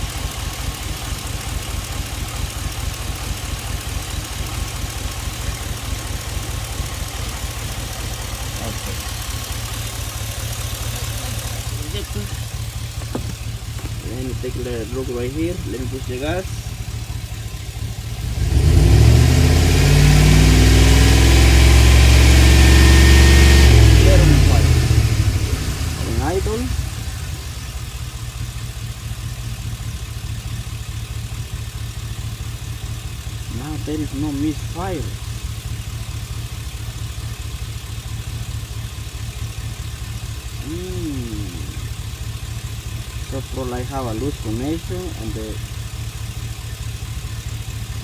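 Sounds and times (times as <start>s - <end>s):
engine revving from idle: 0.0s - 48.0s.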